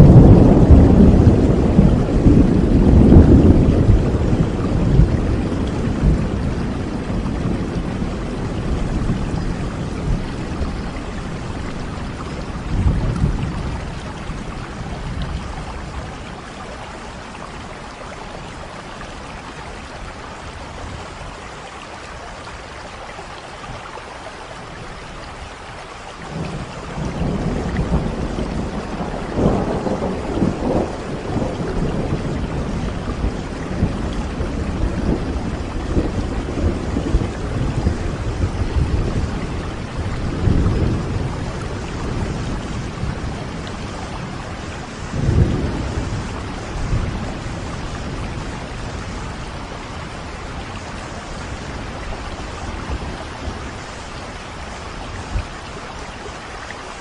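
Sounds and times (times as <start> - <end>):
rumble of thunder: 0.0 - 21.5, 25.8 - 56.4
steady rain: 0.0 - 57.0.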